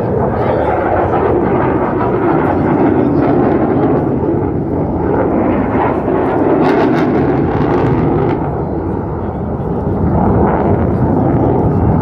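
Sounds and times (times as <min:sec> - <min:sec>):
jet engine crackle: 0:00.0 - 0:12.0
jet engine rumble: 0:00.0 - 0:12.0.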